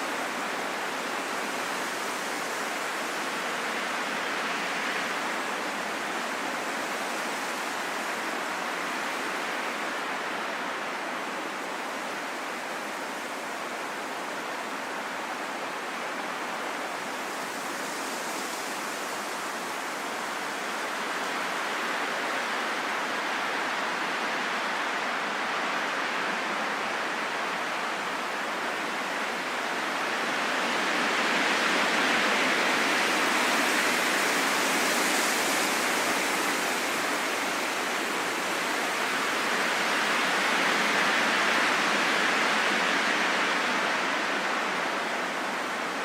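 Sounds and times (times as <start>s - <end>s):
rain falling in a forest: 0.0s - 46.0s.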